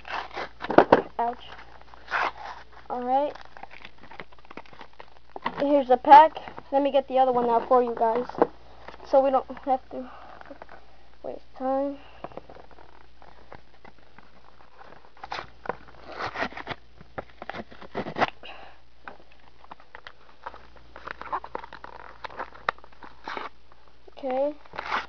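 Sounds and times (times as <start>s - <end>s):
foil wrapper crinkling: 0.0s - 10.8s, 12.0s - 18.6s, 19.2s - 25.0s.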